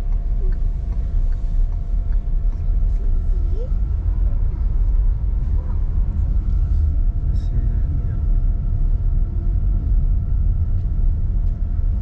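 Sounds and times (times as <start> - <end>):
car engine rumble: 0.0 - 12.0
road noise: 0.0 - 12.0.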